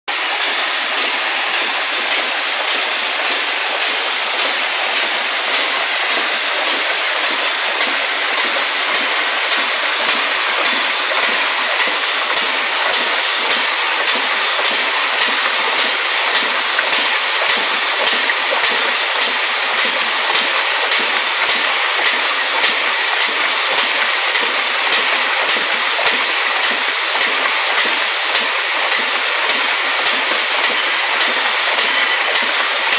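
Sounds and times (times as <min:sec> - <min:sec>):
pump exhaust air hissing: 0:00.1 - 0:32.9
water gushing from hose: 0:00.1 - 0:32.9.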